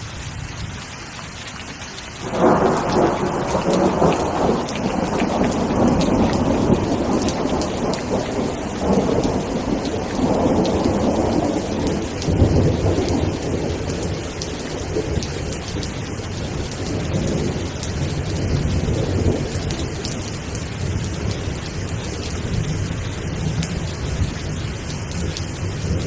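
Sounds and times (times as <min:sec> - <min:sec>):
steady rain: 0:00.0 - 0:26.0
thunder rumbling: 0:02.2 - 0:26.0.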